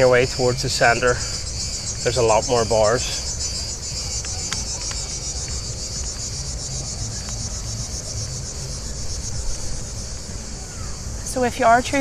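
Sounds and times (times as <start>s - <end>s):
high pulsing insect chorus: 0.0s - 12.0s.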